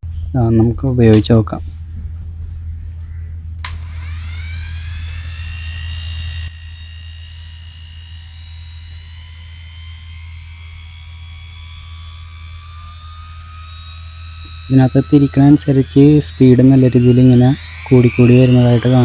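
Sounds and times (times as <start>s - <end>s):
die grinder motor whine: 3.6s - 19.0s.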